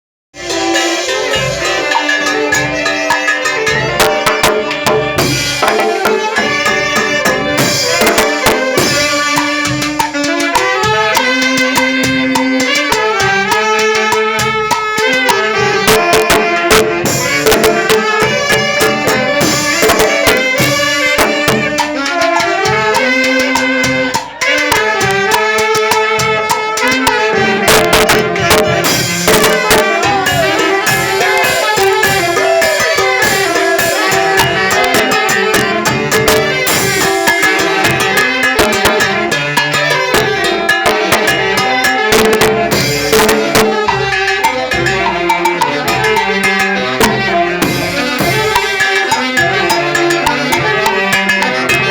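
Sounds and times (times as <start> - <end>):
latin dance band music: 0.3 - 51.9.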